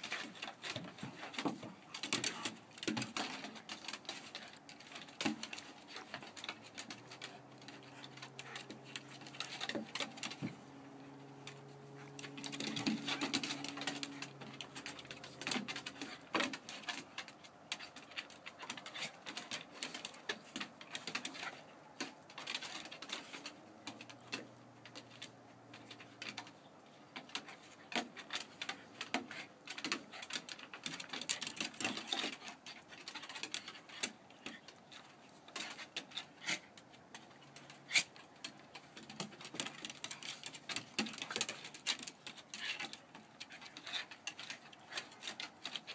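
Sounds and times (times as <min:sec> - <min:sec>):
dog claws on wooden boards: 0:00.0 - 0:45.9.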